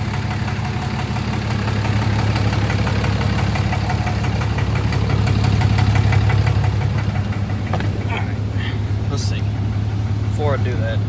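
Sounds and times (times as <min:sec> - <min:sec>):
diesel engine idling: 0:00.0 - 0:11.0
light rhythmic engine knock: 0:00.0 - 0:11.0.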